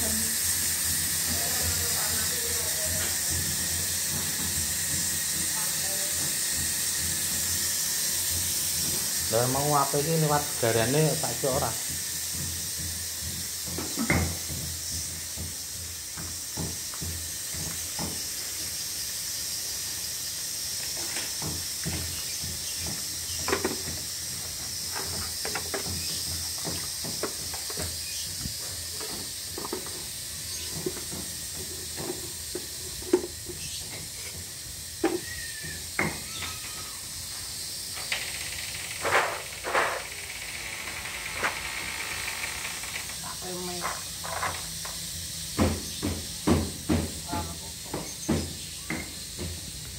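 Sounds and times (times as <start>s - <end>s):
steady high hiss: 0.0s - 49.9s.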